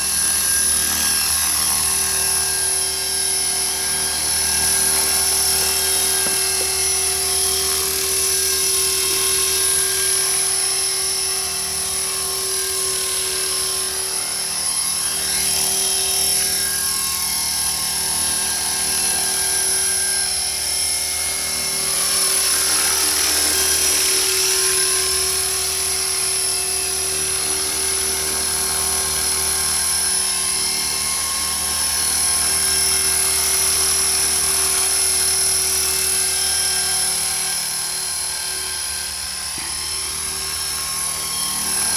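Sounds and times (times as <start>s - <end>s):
model helicopter motor whine: 0.0s - 41.9s.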